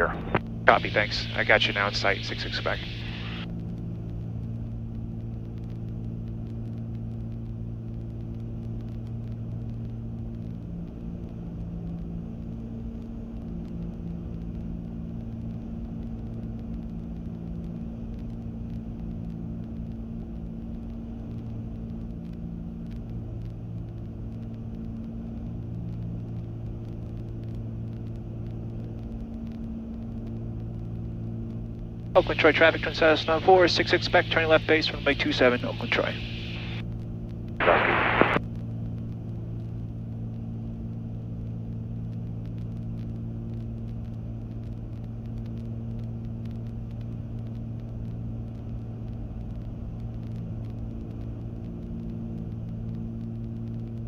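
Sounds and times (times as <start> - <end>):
aircraft propeller engines droning: 0.0 - 54.0.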